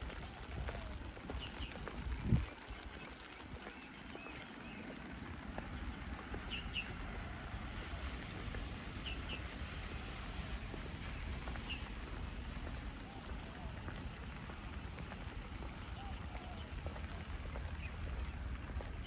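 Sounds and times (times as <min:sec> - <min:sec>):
footsteps on wet ground: 0:00.0 - 0:19.0
steady rain: 0:00.0 - 0:19.0.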